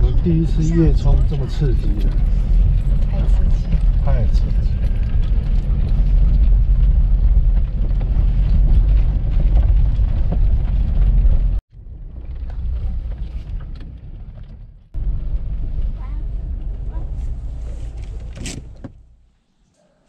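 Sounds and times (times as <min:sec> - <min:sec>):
car rumbling on dirt track: 0:00.0 - 0:19.2.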